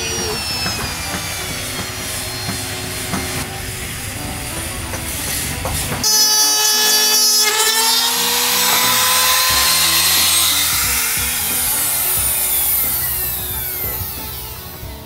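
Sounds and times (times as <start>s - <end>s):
background music: 0.0s - 15.0s
router motor whine: 0.0s - 15.0s.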